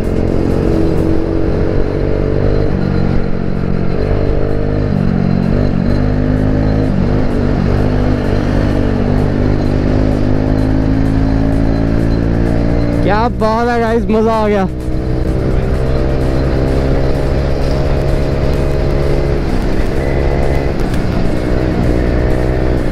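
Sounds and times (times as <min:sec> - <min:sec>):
background music: 0:00.0 - 0:22.9
scooter engine accelerating: 0:00.0 - 0:22.9.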